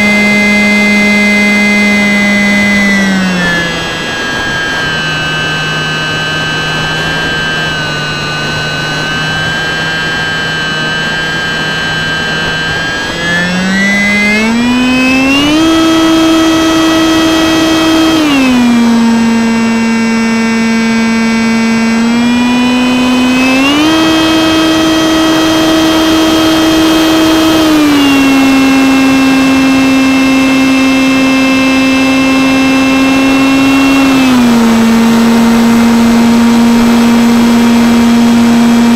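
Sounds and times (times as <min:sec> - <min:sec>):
electric motor and propeller: 0:00.0 - 0:38.9.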